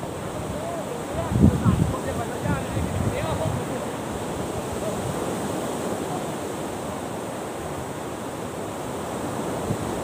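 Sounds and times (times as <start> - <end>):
sea surf rushing: 0.0 - 10.0
wind: 0.0 - 10.0.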